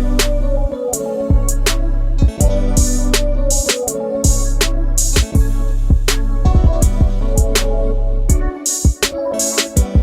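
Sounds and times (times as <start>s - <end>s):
steady bass line: 0.0s - 9.2s
music with drum beat: 0.0s - 10.0s.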